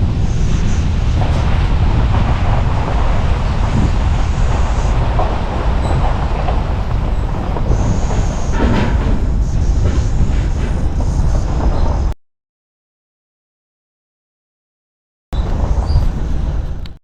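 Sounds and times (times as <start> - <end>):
tyres rumbling on gravel: 0.0 - 12.2, 15.4 - 17.0.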